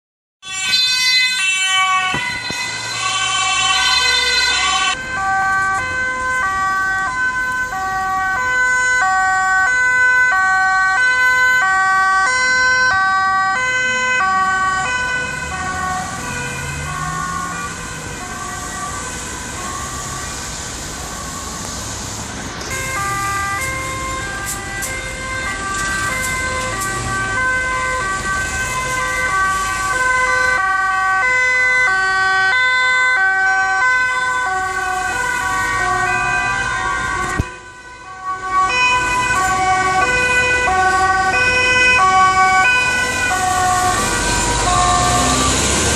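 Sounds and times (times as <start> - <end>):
traffic passing on wet road: 0.4 - 45.9
two-tone sirens: 0.4 - 45.9.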